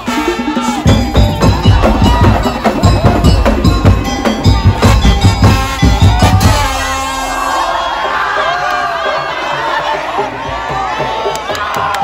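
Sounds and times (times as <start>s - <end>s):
percussion band playing: 0.0s - 12.0s.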